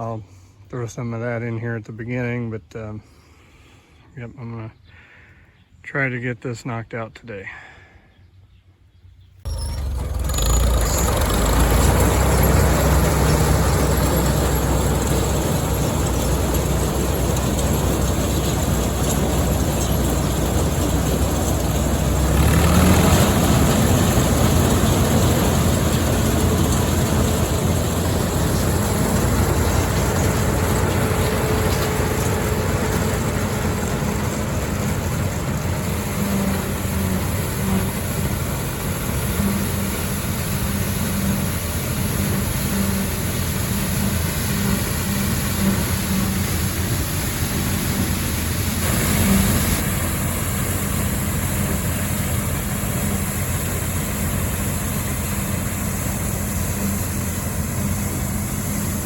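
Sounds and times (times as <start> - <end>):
combine harvester running: 9.5 - 59.0
tractor engine running: 9.5 - 59.0.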